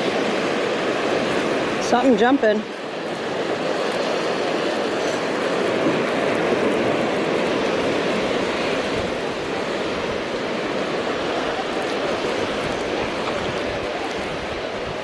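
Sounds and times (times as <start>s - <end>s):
ocean waves washing on beach: 0.0s - 15.0s.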